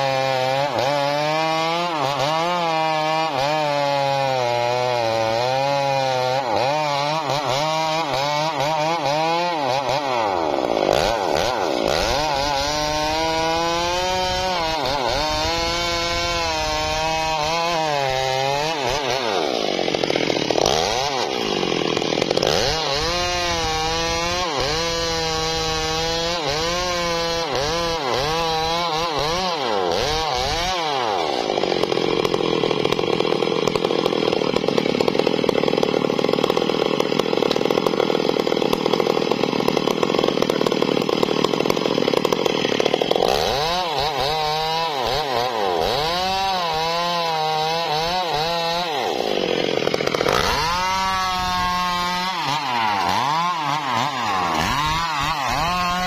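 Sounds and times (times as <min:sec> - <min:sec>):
chainsaw engine revving: 0:00.0 - 0:56.0.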